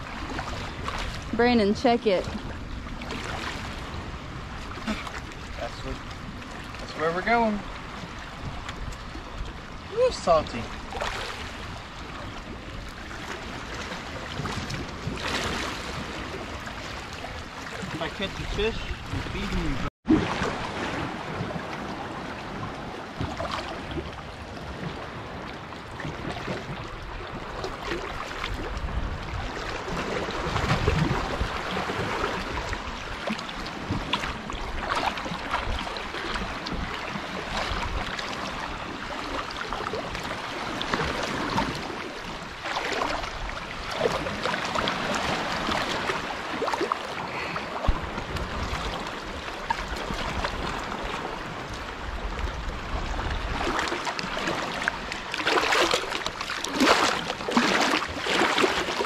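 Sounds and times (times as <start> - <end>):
seawater sloshing and splashing: 0.0 - 59.0.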